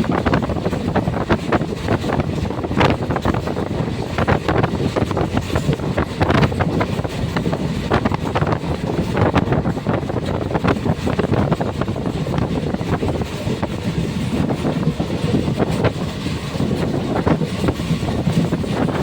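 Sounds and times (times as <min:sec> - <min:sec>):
train rumbling and rattling: 0:00.0 - 0:19.0
wind buffeting microphone: 0:00.0 - 0:19.0.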